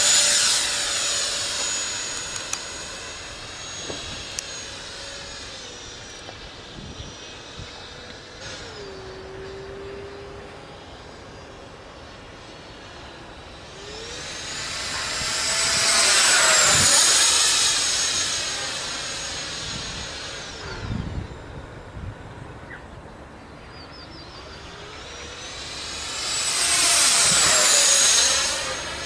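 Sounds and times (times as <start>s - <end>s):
model jet fan whine passing: 0.0s - 29.0s.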